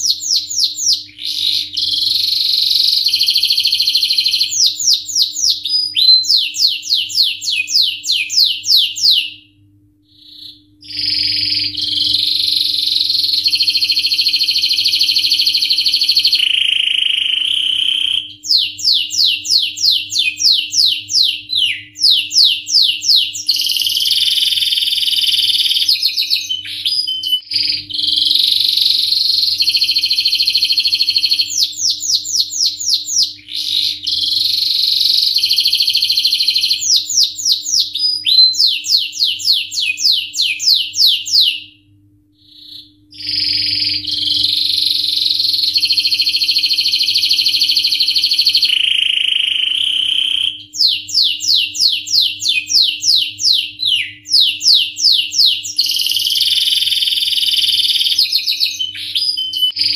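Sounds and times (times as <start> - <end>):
canary singing trills: 0.0 - 41.8, 42.4 - 59.9.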